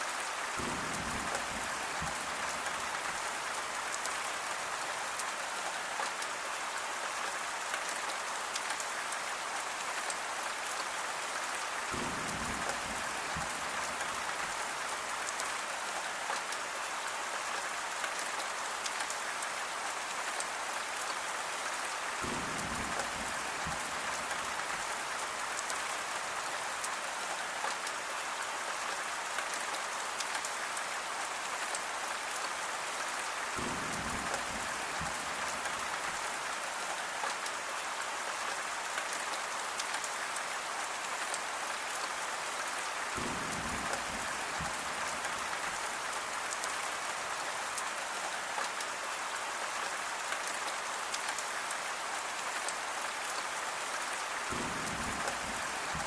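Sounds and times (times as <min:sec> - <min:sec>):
rain pattering: 0:00.1 - 0:56.0.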